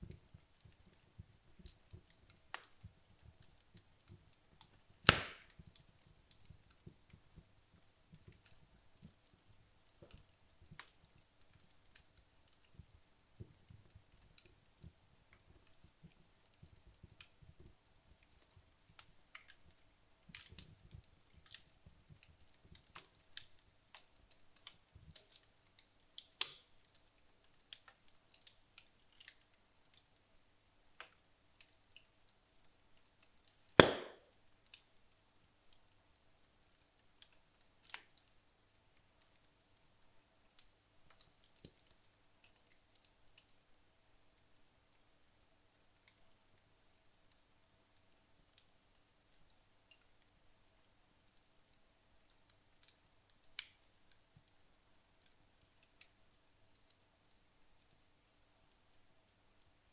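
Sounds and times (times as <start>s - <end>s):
fireplace logs crackling and popping: 0.0s - 59.9s.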